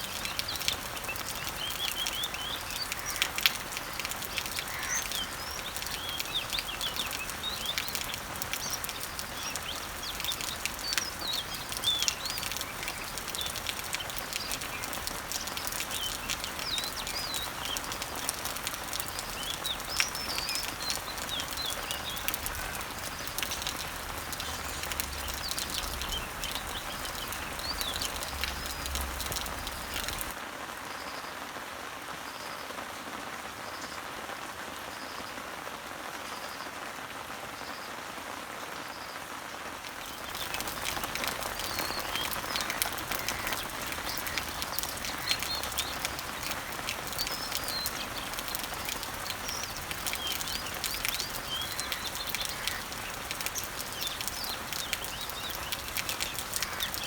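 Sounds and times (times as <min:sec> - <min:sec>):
birds chirping: 0:00.0 - 0:30.4, 0:39.9 - 0:57.0
rain falling on leaves: 0:00.0 - 0:57.0.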